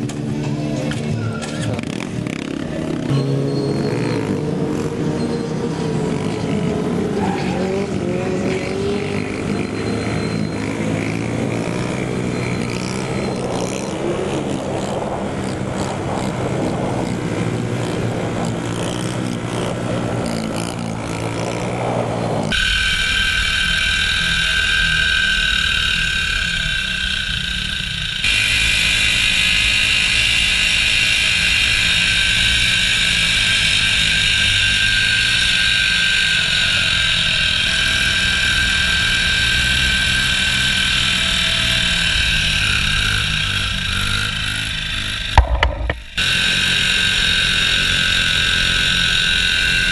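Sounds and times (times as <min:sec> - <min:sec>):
high-pitched engine drone: 0:00.0 - 0:49.9
mini bike engines revving: 0:00.0 - 0:49.9.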